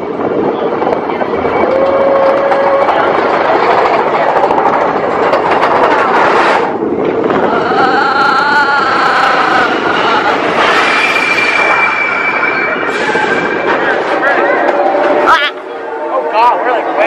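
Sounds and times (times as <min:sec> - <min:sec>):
roller coaster rattling on track: 0:00.0 - 0:17.0.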